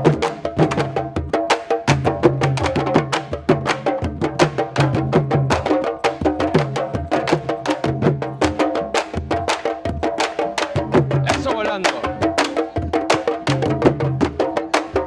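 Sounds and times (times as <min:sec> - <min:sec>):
drums playing together: 0:00.0 - 0:15.0.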